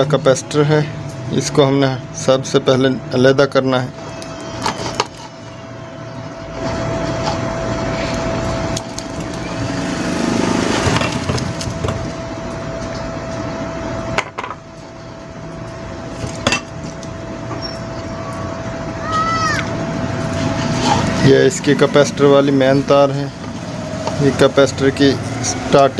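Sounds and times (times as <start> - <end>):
thin constant whine: 0.0 - 25.9.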